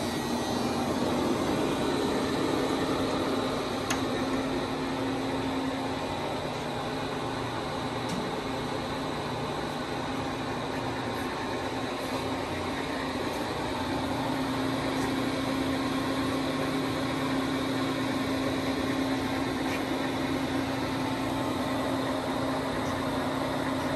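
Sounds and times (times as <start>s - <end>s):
machinery hum: 0.0s - 23.9s.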